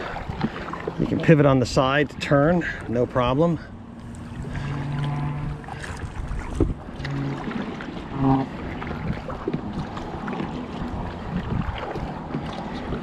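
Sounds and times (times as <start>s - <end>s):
small splashes: 0.0s - 1.6s, 3.6s - 13.0s
kayak paddle strokes on water: 0.0s - 13.0s.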